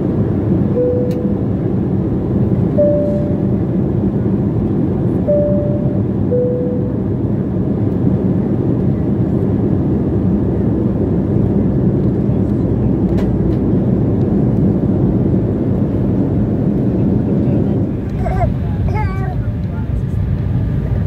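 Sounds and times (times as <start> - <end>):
airplane cabin noise: 0.0 - 21.0.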